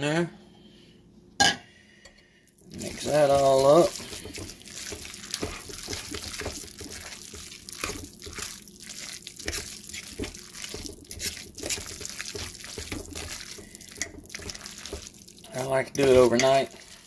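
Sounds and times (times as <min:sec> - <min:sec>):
wet sloppy stirring: 0:02.5 - 0:17.0
spoon scraping against crock: 0:02.8 - 0:17.0.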